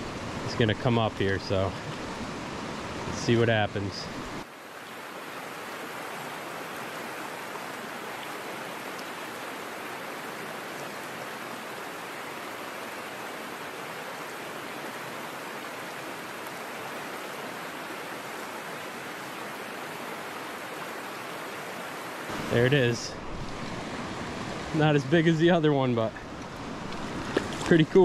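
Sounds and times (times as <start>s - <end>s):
creek water rushing: 0.0s - 28.0s.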